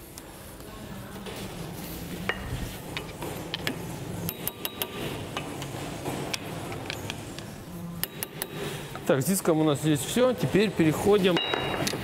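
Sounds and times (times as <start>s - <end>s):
low workshop hum: 0.0s - 12.0s.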